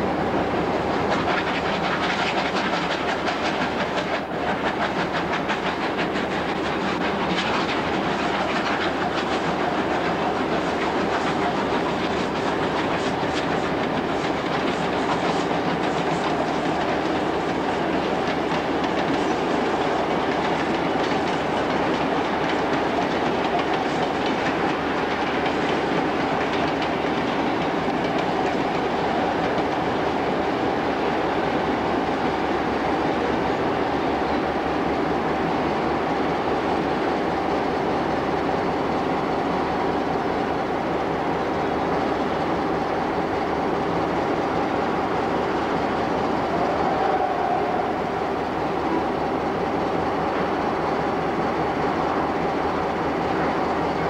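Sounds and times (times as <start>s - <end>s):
steam locomotive passing: 0.0s - 54.0s.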